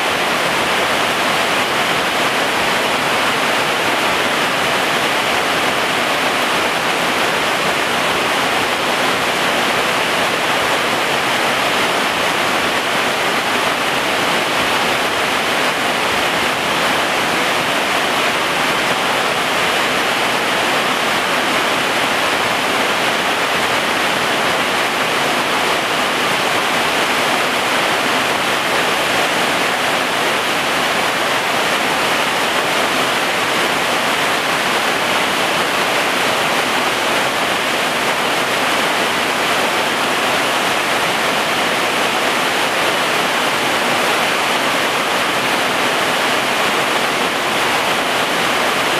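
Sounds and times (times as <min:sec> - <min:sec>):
heavy rain on foliage: 0:00.0 - 0:48.9.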